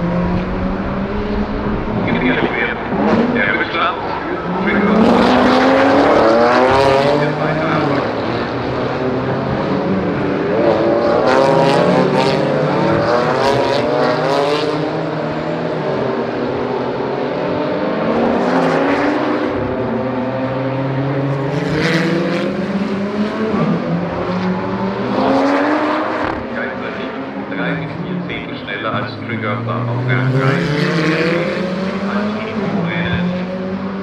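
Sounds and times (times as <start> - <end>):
race car engines revving: 0.0 - 34.0.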